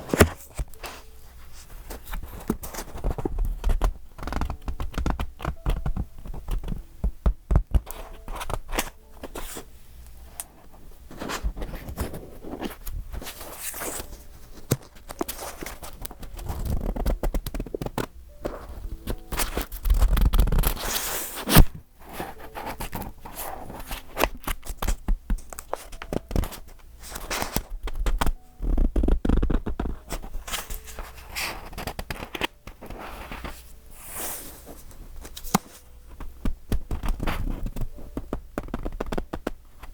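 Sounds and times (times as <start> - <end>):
page-turn rustles: 0.0 - 6.8, 10.5 - 39.9
paper pages rustling: 0.0 - 6.8, 7.6 - 39.9.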